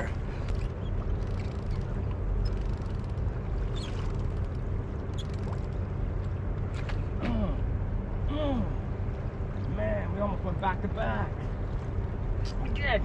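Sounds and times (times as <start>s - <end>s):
faint steady hum: 0.0s - 13.0s
low outdoor rumble: 0.0s - 13.0s.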